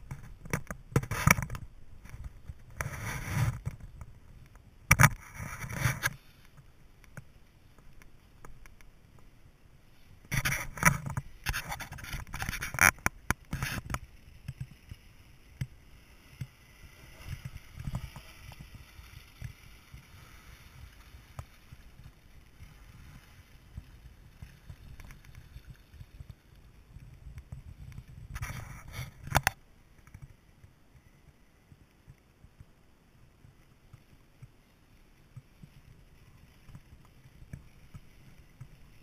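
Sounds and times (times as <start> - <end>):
scraping and crackling on microphone: 0.0 - 39.0.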